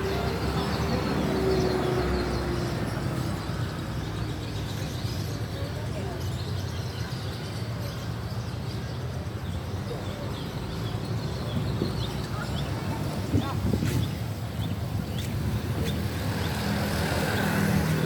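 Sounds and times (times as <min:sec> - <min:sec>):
caged songbirds chirping: 0:00.0 - 0:18.0.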